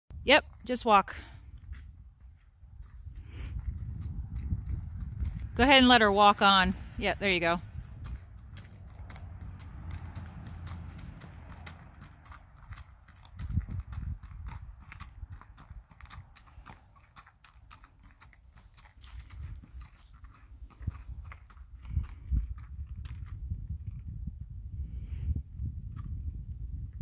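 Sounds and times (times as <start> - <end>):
hooves clopping on gravel: 0.3 - 23.9.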